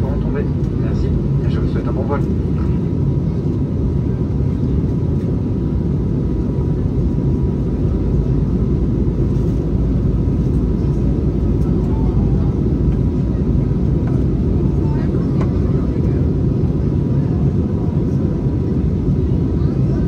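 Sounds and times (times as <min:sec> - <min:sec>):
airliner engines rumbling in cabin: 0:00.0 - 0:20.0.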